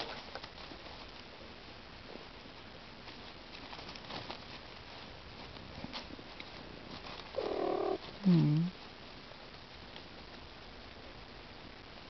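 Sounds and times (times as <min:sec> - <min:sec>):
rustling in dry leaves: 0:00.0 - 0:11.7.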